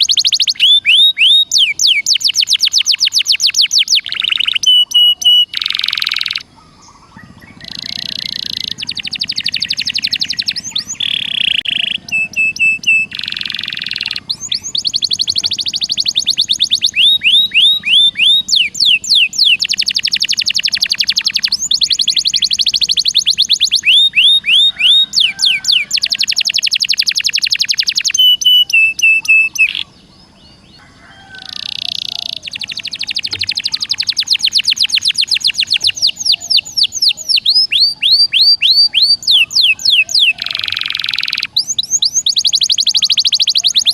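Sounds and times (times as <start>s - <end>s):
songbird fast trills: 0.0s - 43.9s.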